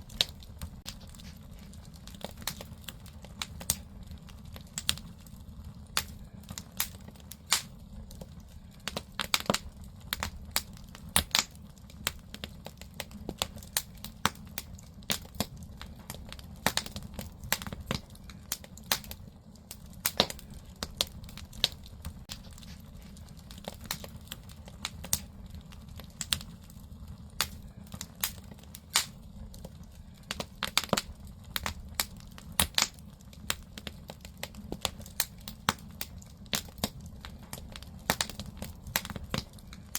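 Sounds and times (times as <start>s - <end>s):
fire rumbling: 0.0s - 39.9s
firewood crackling and popping: 0.0s - 39.9s.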